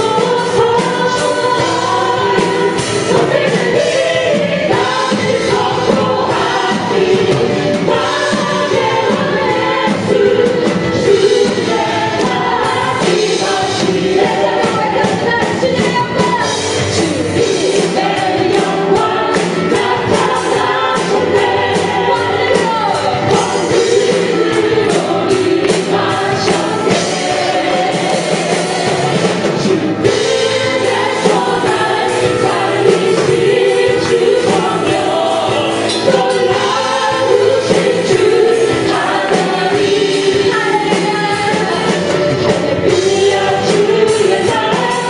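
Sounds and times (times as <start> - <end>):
group vocals over band: 0.0 - 45.0.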